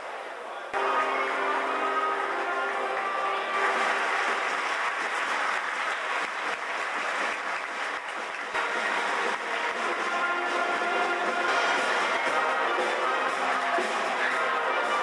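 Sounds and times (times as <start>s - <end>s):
crowd applauding: 0.8s - 15.0s.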